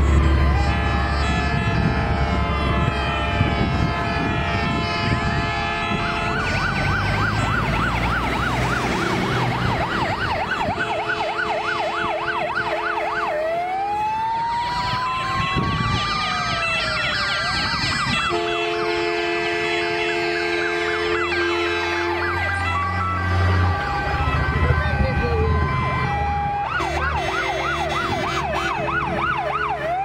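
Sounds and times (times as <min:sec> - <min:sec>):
fire engine sirens: 0:00.0 - 0:30.0
low rumble of truck engines: 0:00.0 - 0:30.0.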